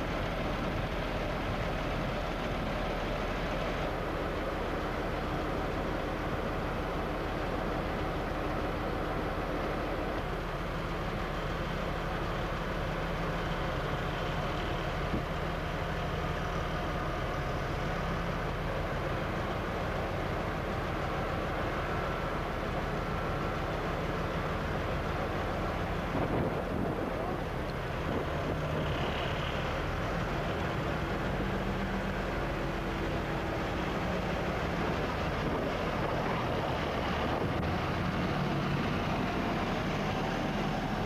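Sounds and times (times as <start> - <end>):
diesel locomotive engine running: 0.0 - 41.0.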